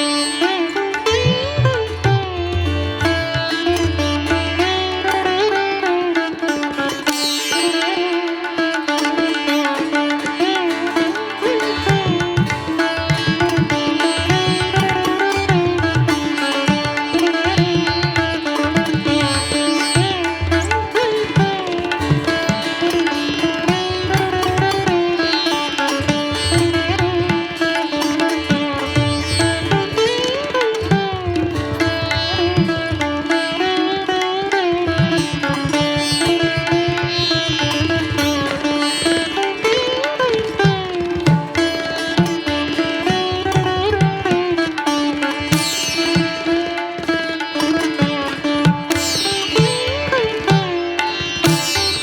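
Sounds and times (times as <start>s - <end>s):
sitar-like plucked string melody: 0.0s - 52.0s.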